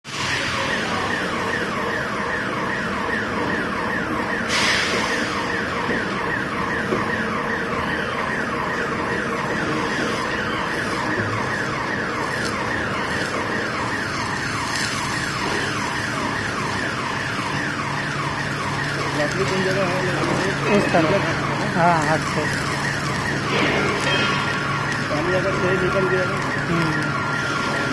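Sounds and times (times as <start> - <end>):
electronic alarm falling tone: 0.1 - 27.9.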